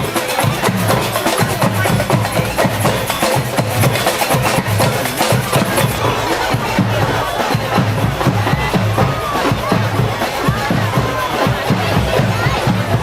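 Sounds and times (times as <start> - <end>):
bass drum beats: 0.0 - 13.0
samba drums sharp strokes: 0.0 - 13.0.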